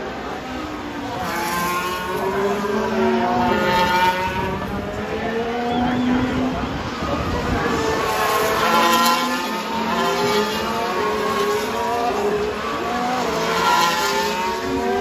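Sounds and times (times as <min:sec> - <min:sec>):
racing cars passing: 0:00.0 - 0:15.0.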